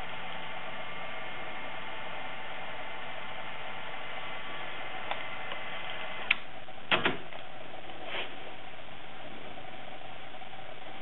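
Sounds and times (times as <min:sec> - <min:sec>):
faint whine: 0:00.0 - 0:11.0
tape hiss: 0:00.0 - 0:11.0.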